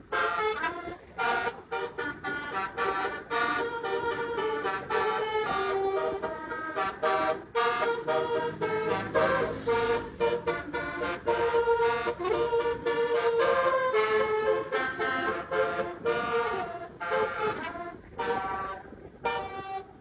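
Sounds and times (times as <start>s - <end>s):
bus musical horn playing a tune: 0.0s - 20.0s.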